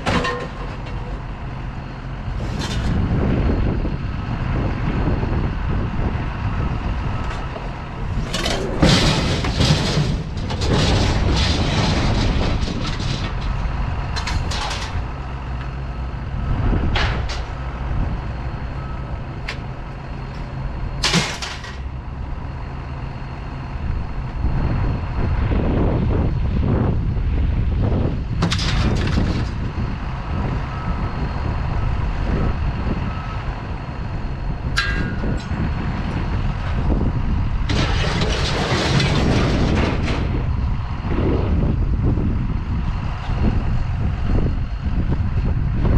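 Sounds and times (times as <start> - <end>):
engine low rumble: 0.0 - 45.9.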